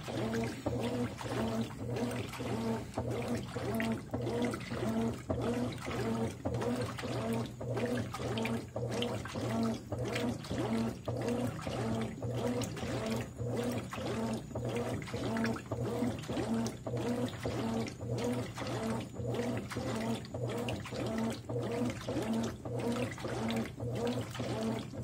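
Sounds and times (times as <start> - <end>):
low motor hum: 0.0 - 25.0
washing machine agitator swishing: 0.0 - 25.0
water churning: 0.0 - 25.0.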